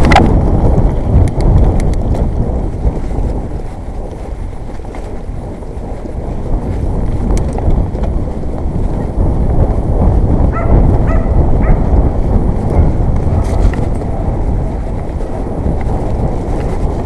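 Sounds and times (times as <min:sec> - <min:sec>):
mountain bike rumbling on trail: 0:00.0 - 0:17.0.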